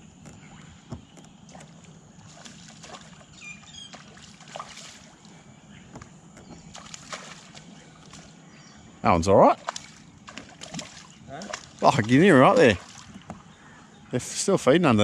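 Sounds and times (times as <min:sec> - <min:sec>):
water lapping against kayak hull: 0:00.0 - 0:08.7, 0:09.4 - 0:14.0.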